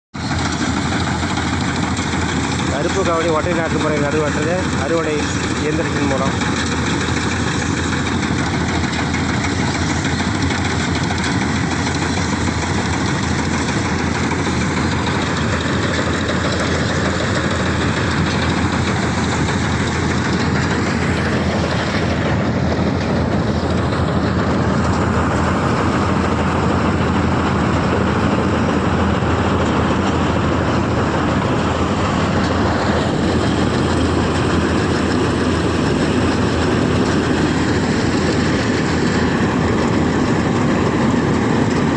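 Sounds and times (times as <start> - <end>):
combine harvester engine drone: 0.1 - 41.9.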